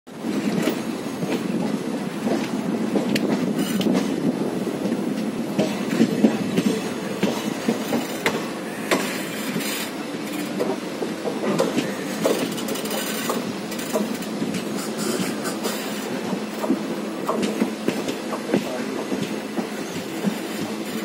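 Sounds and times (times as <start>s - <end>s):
train wheels rumbling on rails: 0.1s - 21.0s.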